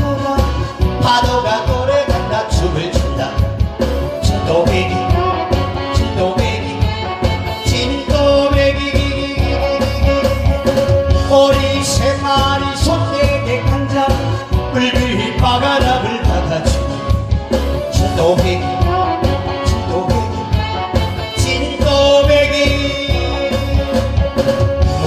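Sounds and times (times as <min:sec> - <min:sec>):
amplified backing track with drum beat: 0:00.0 - 0:25.0
person singing: 0:00.0 - 0:25.0.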